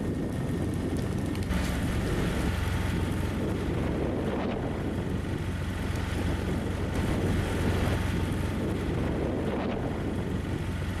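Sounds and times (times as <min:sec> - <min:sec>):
gas torch roaring: 0:00.0 - 0:11.0
low hum: 0:00.0 - 0:11.0.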